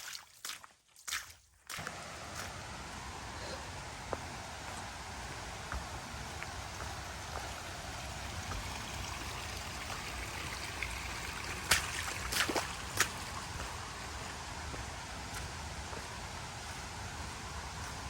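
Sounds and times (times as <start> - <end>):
stream rushing: 1.8 - 18.0.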